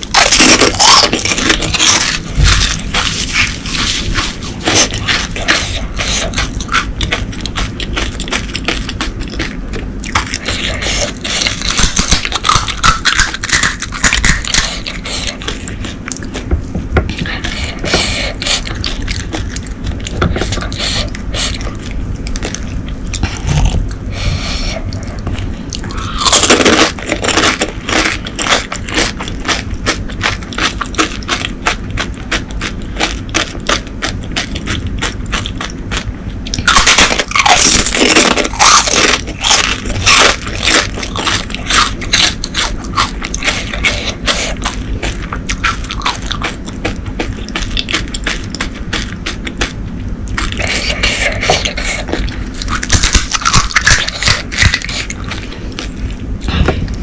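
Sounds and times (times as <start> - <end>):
crunching crisp shells: 0.0 - 16.5, 24.8 - 56.5.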